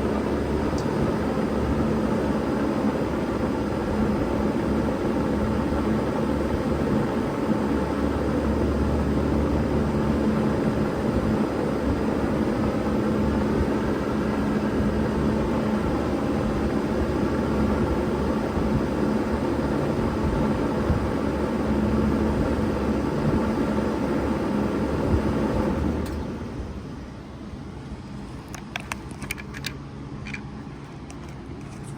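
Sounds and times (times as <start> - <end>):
compressor hum: 0.0 - 31.9
fan air rushing: 0.0 - 31.9.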